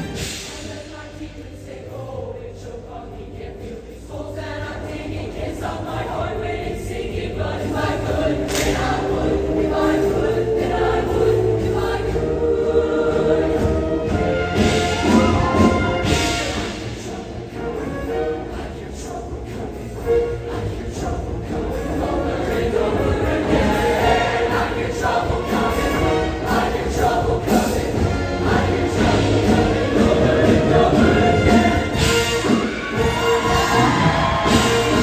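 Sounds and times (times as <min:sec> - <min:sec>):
choir singing: 0:00.0 - 0:35.0
instrumental accompaniment: 0:03.4 - 0:35.0.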